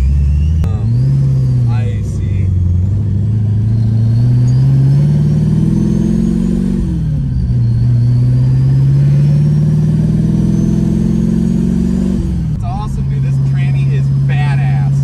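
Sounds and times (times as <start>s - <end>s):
car engine accelerating: 0.0s - 15.0s
supercharger whine: 0.0s - 15.0s.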